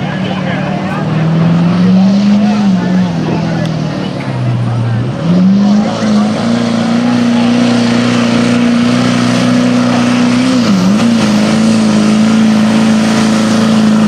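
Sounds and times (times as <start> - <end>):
truck engine at high revs: 0.0 - 14.0.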